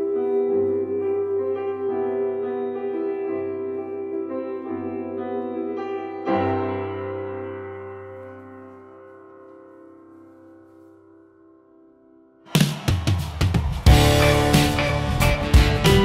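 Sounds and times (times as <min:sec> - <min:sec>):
slow keyboard chords: 0:00.0 - 0:11.9, 0:13.9 - 0:16.0.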